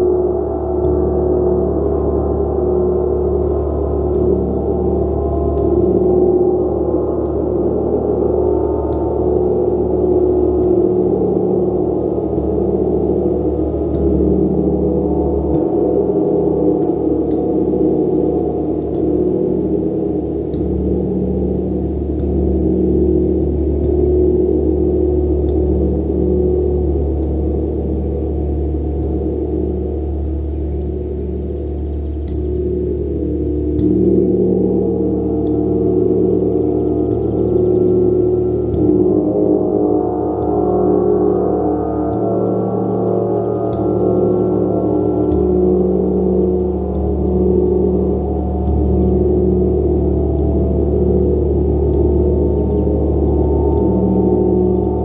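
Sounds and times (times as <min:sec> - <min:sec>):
gong played continuously: 0:00.0 - 0:55.0.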